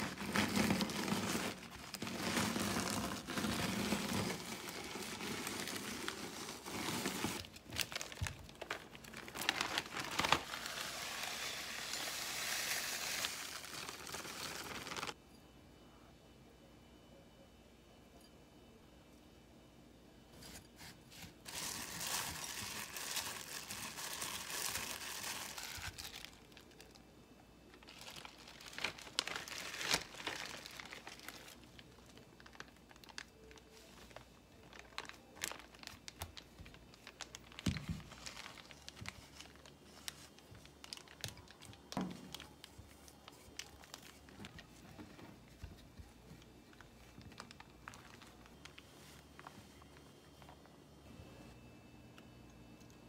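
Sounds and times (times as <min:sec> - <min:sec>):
plastic bag crinkling: 0:00.0 - 0:15.2, 0:21.4 - 0:27.0, 0:27.7 - 0:50.6.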